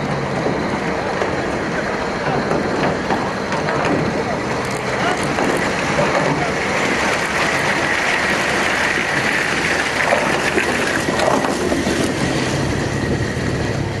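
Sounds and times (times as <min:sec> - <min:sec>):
tracks clattering and squeaking: 0:00.0 - 0:13.9
vehicle engine running: 0:00.0 - 0:14.0.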